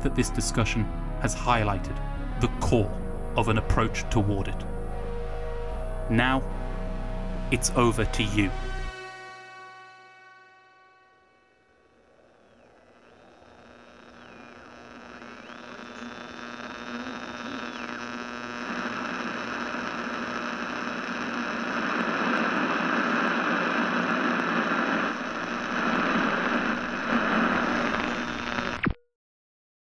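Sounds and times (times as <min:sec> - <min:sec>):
electronic hum and static: 0:02.5 - 0:29.0.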